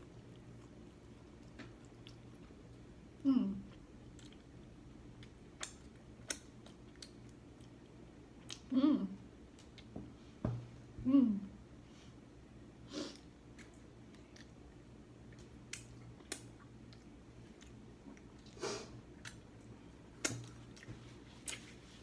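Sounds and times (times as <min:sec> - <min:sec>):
person chewing food: 0:00.0 - 0:08.7, 0:09.4 - 0:10.0, 0:13.1 - 0:22.0
low steady hum: 0:00.0 - 0:22.0.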